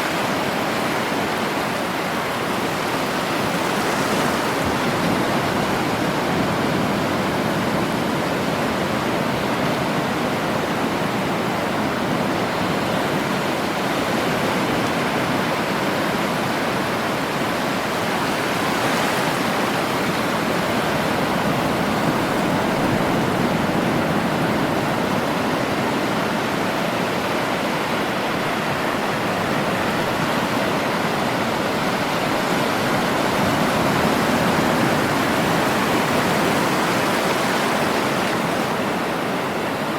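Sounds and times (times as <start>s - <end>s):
sea surf waves rushing: 0.0s - 39.9s.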